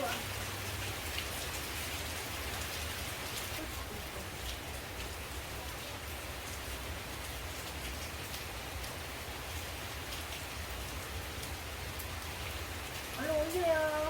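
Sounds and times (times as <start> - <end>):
rain falling on leaves: 0.0 - 14.0.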